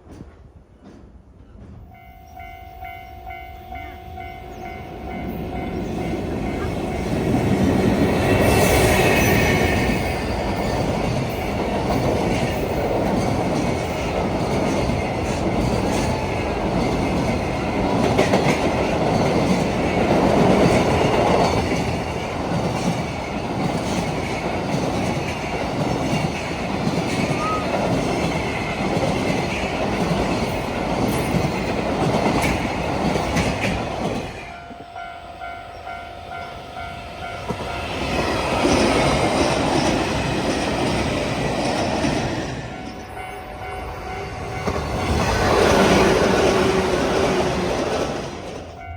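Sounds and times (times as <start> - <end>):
train wheels clattering over rails: 0.0 - 2.0, 5.2 - 34.8, 37.2 - 43.2, 44.3 - 48.8.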